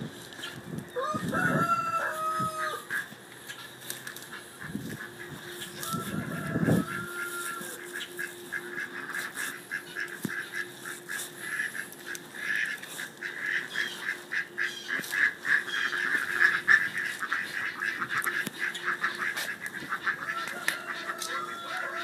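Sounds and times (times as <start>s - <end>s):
poultry calling: 0.3s - 22.0s.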